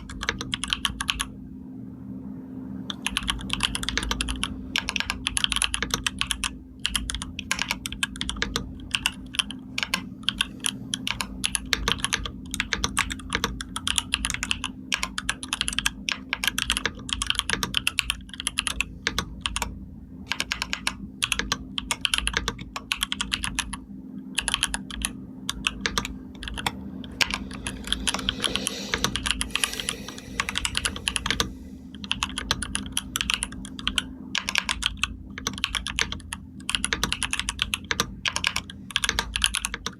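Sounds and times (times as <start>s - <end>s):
computer keyboard typing: 0.0s - 1.3s, 2.9s - 39.9s
steady low hum: 0.0s - 39.9s.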